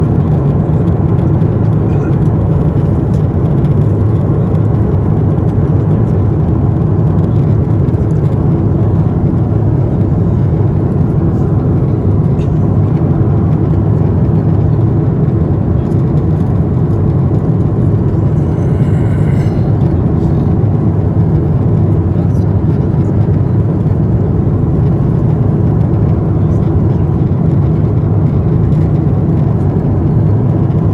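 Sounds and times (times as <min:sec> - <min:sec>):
jet engines droning: 0:00.0 - 0:30.4.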